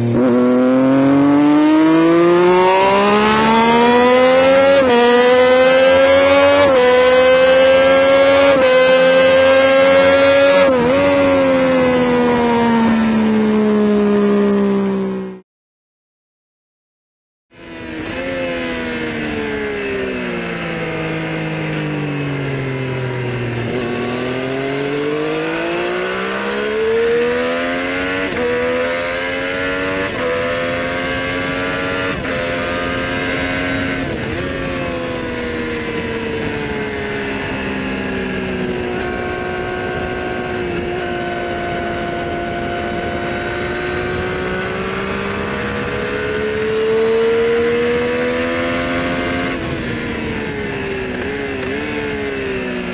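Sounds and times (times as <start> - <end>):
motorcycle engine and exhaust: 0.0 - 15.4, 17.5 - 52.9.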